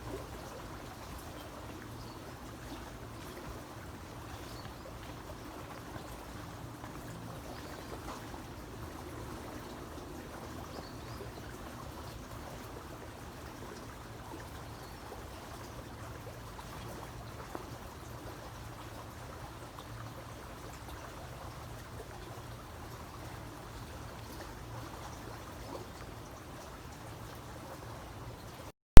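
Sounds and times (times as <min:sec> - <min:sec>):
creek water flowing and trickling: 0:00.0 - 0:29.0.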